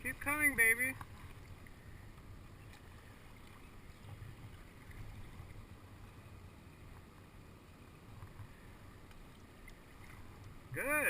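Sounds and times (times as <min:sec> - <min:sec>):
low steady rumble: 0:00.0 - 0:11.0
paddle dipping in water: 0:00.0 - 0:11.0
water lapping: 0:00.0 - 0:11.0.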